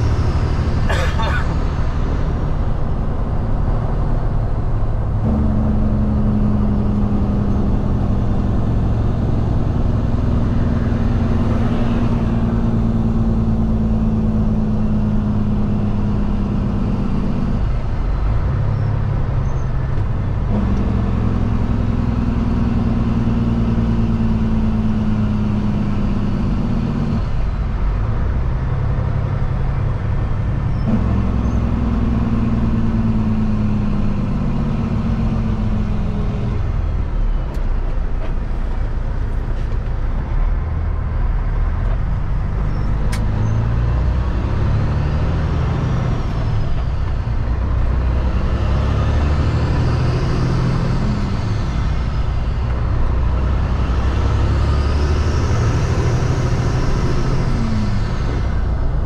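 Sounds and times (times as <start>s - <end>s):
diesel truck engine: 0.0s - 59.0s
road noise: 0.0s - 59.0s.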